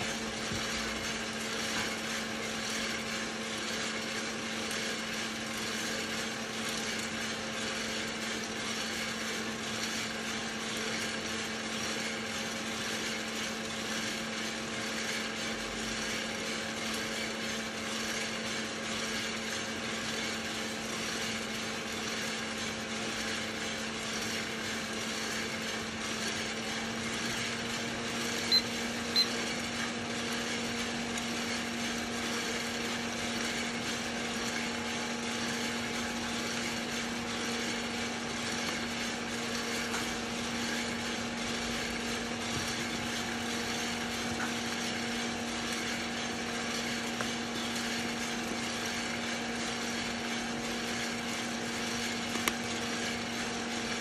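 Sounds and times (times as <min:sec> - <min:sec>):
motor and fan hum: 0:00.0 - 0:54.0.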